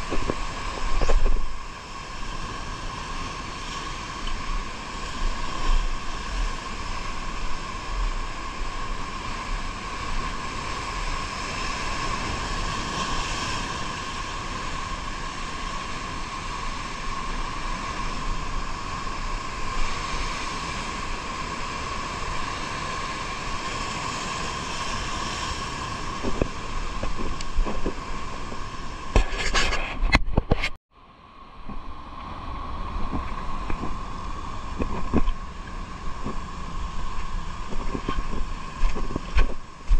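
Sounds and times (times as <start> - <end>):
wind noise on microphone: 0.0 - 30.8, 31.6 - 39.9.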